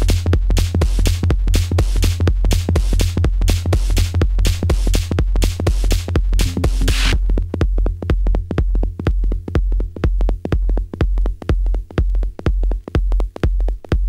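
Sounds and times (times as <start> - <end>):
techno kick drum with deep bass: 0.0 - 14.0.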